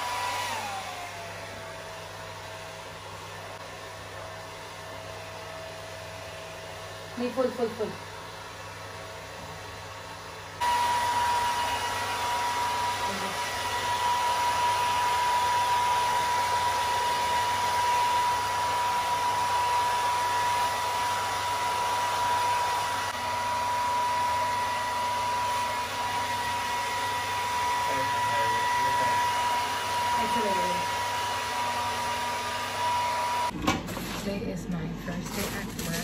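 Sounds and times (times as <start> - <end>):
hair dryer blowing: 0.0 - 33.6.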